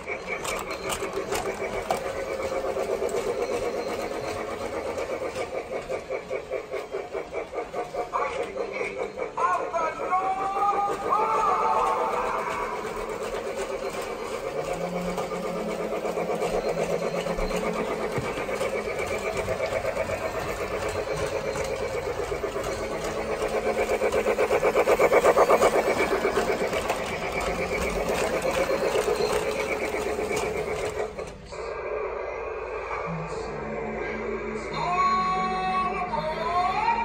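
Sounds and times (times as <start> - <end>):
toy train clattering on track: 0.0 - 31.7.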